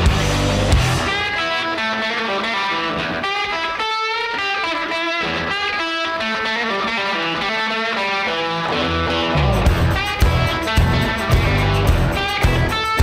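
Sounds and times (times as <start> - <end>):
electric guitar melody: 0.0 - 13.0.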